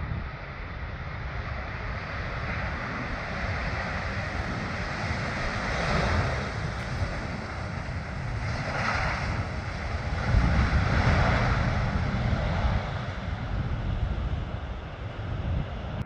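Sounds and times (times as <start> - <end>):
distant jet engines rumbling: 0.0 - 16.0
wind buffeting microphone: 0.0 - 16.0.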